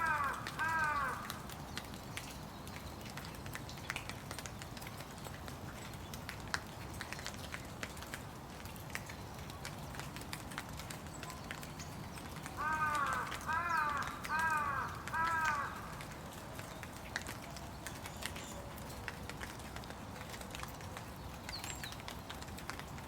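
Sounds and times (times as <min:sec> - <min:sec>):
raindrops tapping: 0:00.0 - 0:23.0
steady rain hiss: 0:00.0 - 0:23.0.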